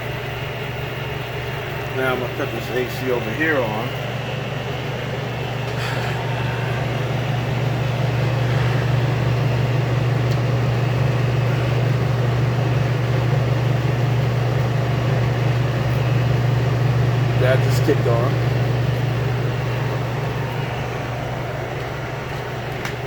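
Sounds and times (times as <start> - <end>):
air conditioner compressor hum: 0.0 - 23.0
air conditioner fan noise: 0.0 - 23.0.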